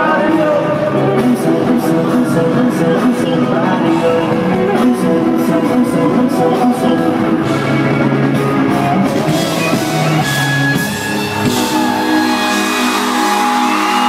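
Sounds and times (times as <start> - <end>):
held guitar-like notes: 0.0 - 14.0
live concert music: 0.0 - 14.0.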